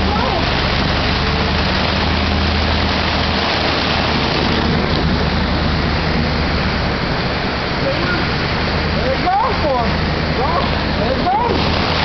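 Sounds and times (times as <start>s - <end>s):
truck engine running: 0.0s - 12.0s
water rushing and splashing: 0.0s - 12.0s.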